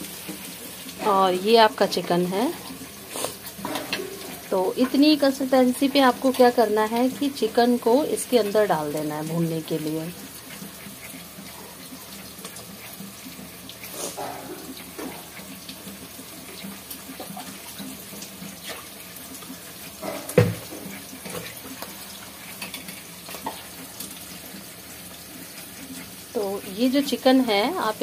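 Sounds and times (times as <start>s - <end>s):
vegetables sizzling in oil: 0.0s - 28.0s.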